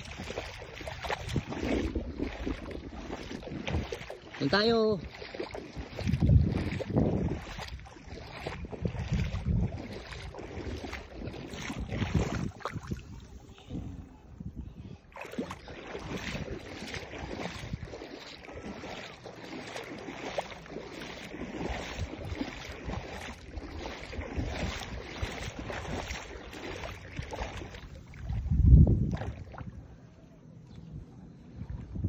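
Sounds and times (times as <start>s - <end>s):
seawater lapping and splashing: 0.0s - 32.0s
wind rumble on microphone: 0.0s - 32.0s.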